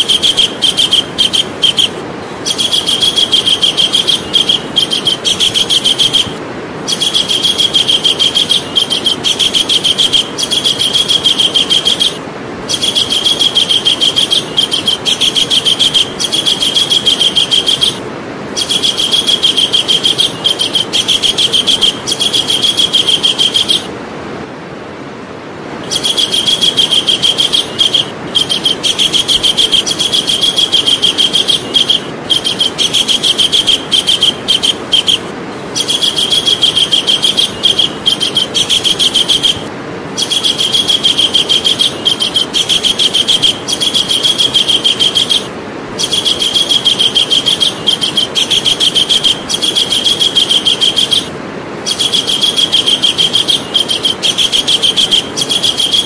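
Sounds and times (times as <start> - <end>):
kingfisher calling trill: 0.0 - 23.9, 25.8 - 56.0
steady background hiss: 0.0 - 56.0.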